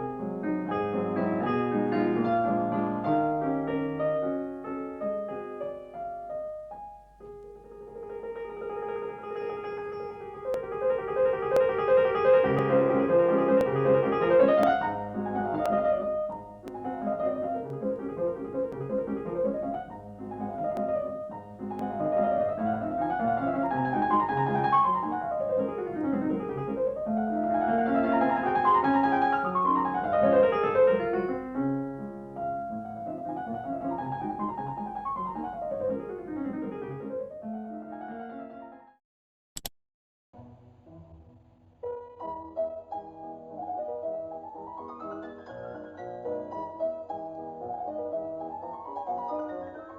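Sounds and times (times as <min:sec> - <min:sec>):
solo piano music: 0:00.0 - 0:39.0, 0:40.9 - 0:49.9.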